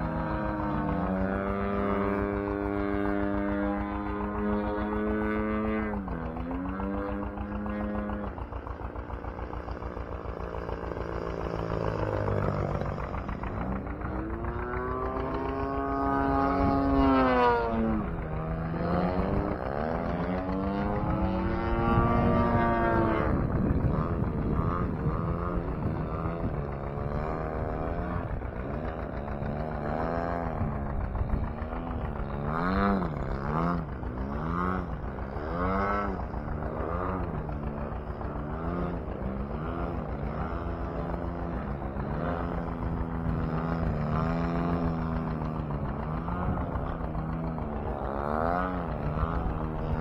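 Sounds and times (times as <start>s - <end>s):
model airplane engine: 0.0s - 50.0s.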